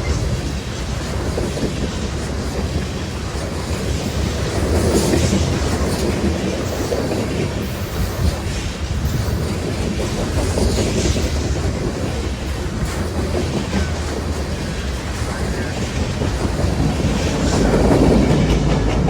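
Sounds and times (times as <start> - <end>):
train wheels rolling on rails: 0.0 - 19.0
wind buffeting microphone: 0.0 - 19.0.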